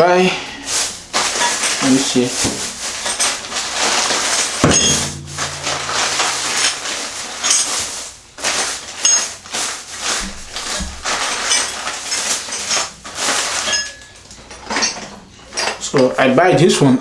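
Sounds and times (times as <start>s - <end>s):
plastic packaging rustling: 0.4s - 15.6s.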